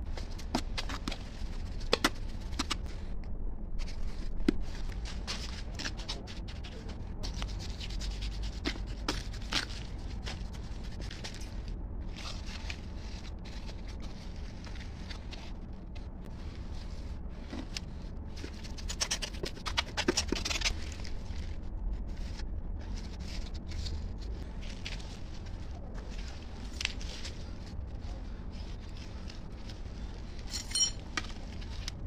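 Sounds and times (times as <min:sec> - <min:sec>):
low steady rumble: 0:00.0 - 0:32.0
steady low hum: 0:00.0 - 0:32.0.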